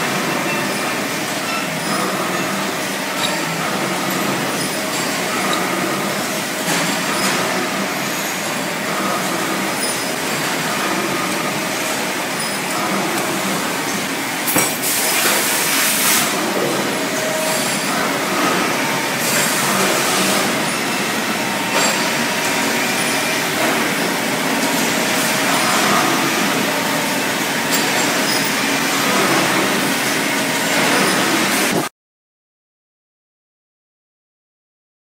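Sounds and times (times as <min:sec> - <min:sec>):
metalworking machines clattering: 0:00.0 - 0:31.9.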